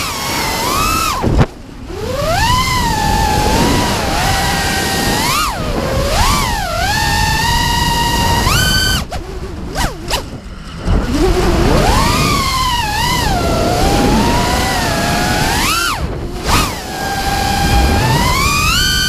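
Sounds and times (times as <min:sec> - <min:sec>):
drone motors whining: 0:00.0 - 0:19.0
low wind rumble: 0:00.0 - 0:19.0.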